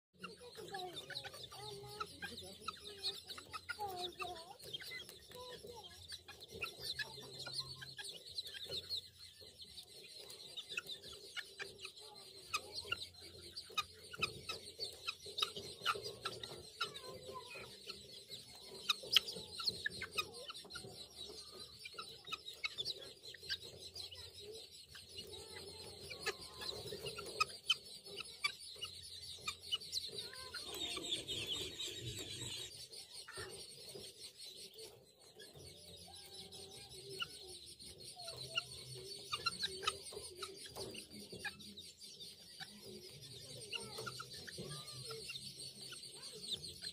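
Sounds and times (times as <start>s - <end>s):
guinea fowl keets calling: 0.2s - 46.9s.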